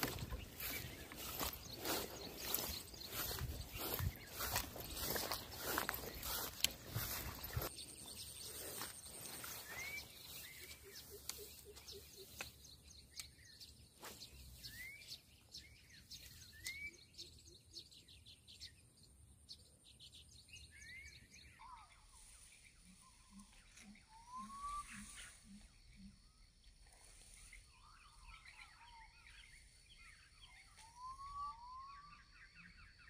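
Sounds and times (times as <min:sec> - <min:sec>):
faint outdoor ambience: 0:00.0 - 0:33.0.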